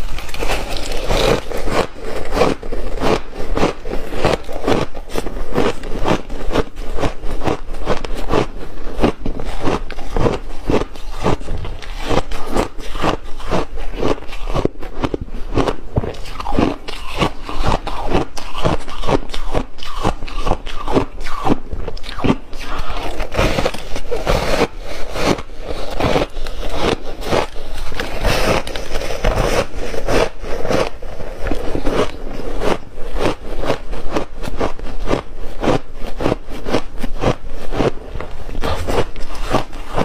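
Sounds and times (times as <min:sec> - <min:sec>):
ice crunching as chewed: 0:00.0 - 0:40.0.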